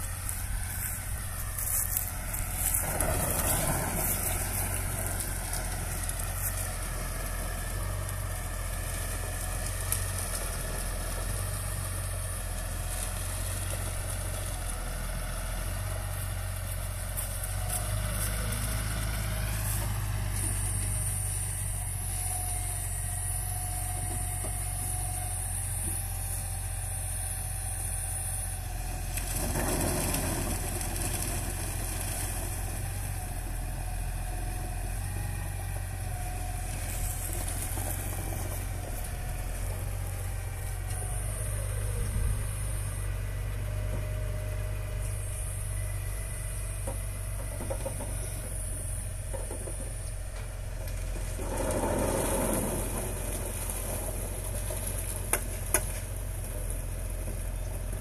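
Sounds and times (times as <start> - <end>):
machinery rumble: 0.0 - 58.0
tractor engine humming: 0.0 - 58.0.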